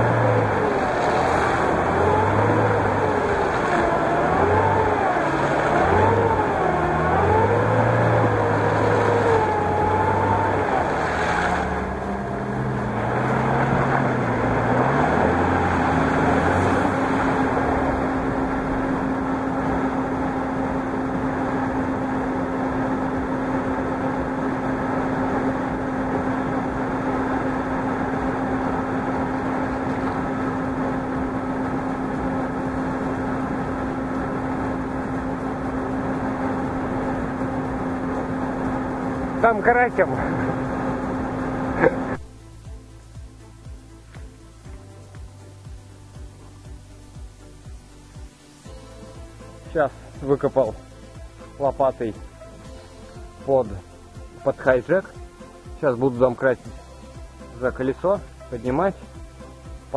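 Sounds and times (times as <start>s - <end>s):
car engine revving with whine: 0.0s - 59.9s.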